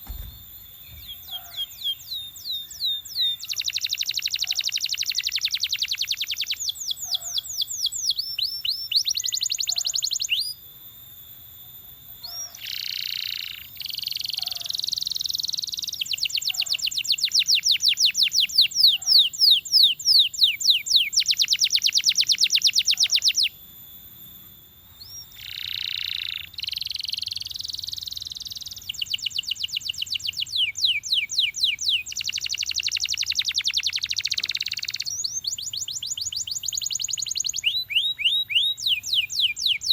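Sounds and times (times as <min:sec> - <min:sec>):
canary singing trills: 0:00.1 - 0:10.6, 0:12.0 - 0:23.6, 0:24.9 - 0:39.9.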